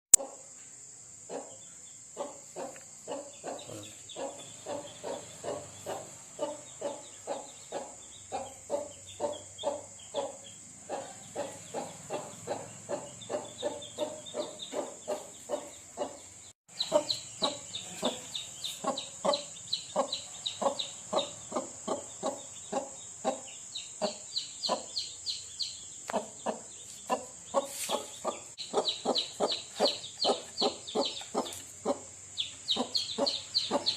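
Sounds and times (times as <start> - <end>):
chicks peeping: 2.2 - 33.9
hen clucking: 2.2 - 33.9.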